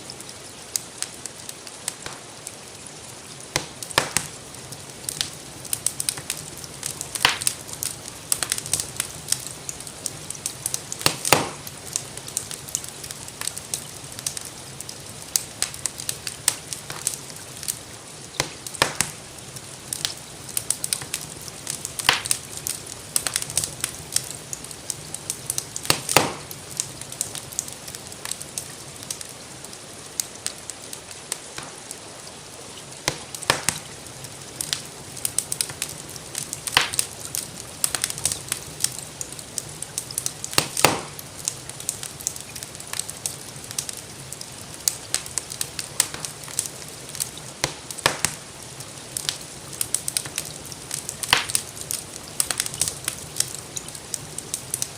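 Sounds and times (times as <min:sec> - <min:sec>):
fire popping: 0:00.0 - 0:54.9
rain hissing: 0:00.0 - 0:54.9
wood fire crackling: 0:00.0 - 0:54.9.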